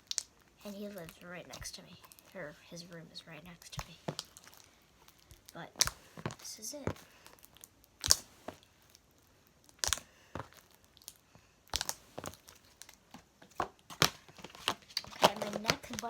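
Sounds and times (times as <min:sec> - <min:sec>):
slime crackling and popping: 0:00.0 - 0:02.5, 0:03.3 - 0:16.0.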